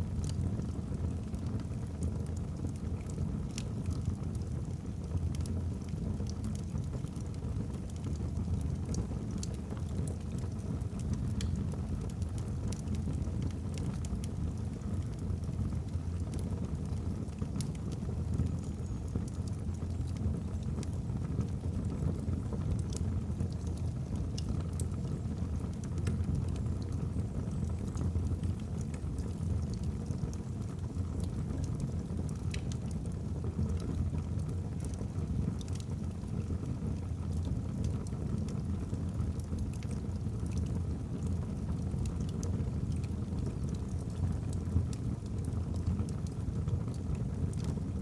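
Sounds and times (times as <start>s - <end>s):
low rumble of flames: 0.0s - 48.0s
logs crackling and popping: 0.1s - 48.0s.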